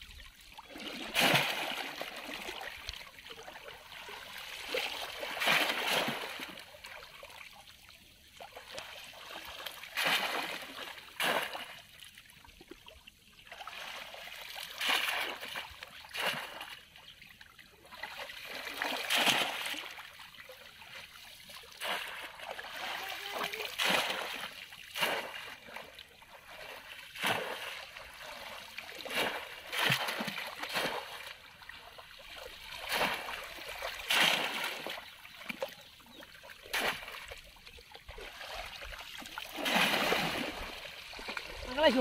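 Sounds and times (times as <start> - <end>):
muddy water splashing: 0.2 - 42.0.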